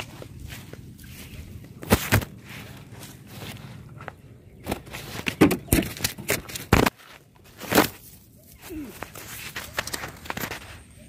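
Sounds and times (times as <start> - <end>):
footsteps through grass: 0.0 - 5.4, 6.4 - 11.0.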